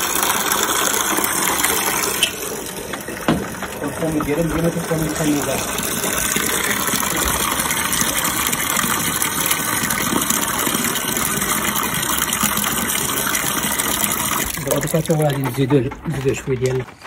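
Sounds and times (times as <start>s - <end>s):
water running from a tap: 0.0s - 16.8s.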